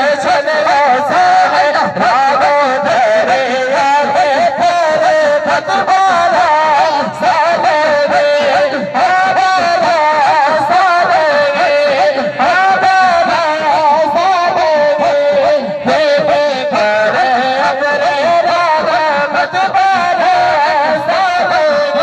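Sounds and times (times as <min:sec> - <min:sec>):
person singing a devotional hymn: 0:00.0 - 0:22.0.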